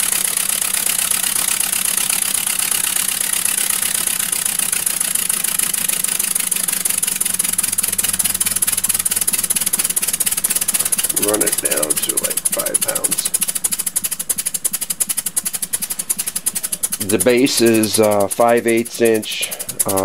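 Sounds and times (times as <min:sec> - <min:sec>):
model air engine hissing exhaust: 0:00.0 - 0:20.0.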